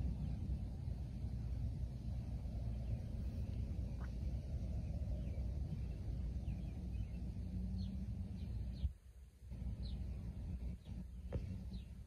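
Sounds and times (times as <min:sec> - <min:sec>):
birds chirping: 0:00.0 - 0:12.0
wind rumble: 0:00.0 - 0:12.0.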